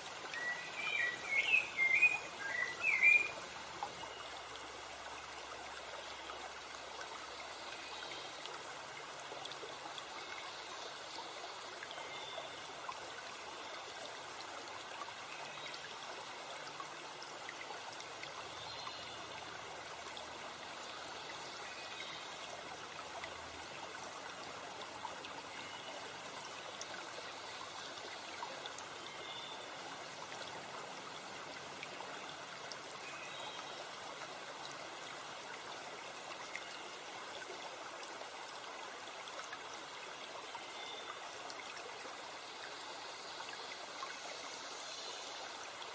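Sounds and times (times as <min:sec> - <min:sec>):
stream running: 0:00.0 - 0:45.9.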